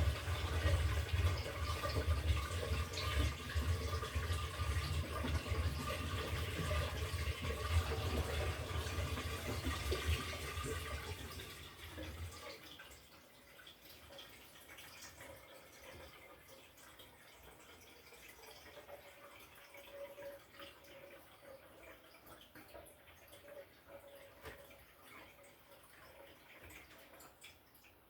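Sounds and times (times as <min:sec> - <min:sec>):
washing machine water rushing: 0:00.0 - 0:28.0.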